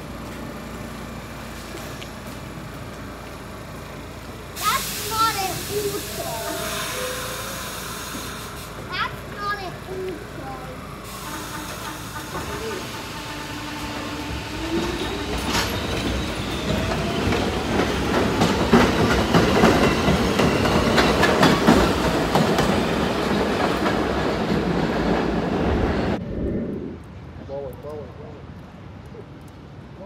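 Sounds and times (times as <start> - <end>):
subway train motors whining: 0.0 - 27.4.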